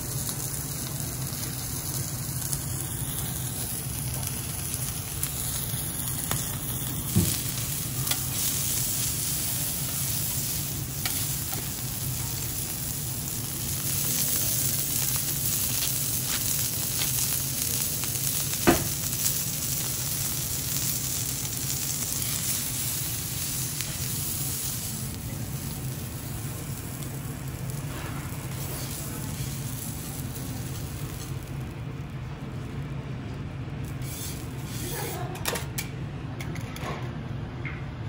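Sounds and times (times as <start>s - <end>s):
beef sizzling on a griddle: 0.0s - 31.8s, 33.9s - 35.3s.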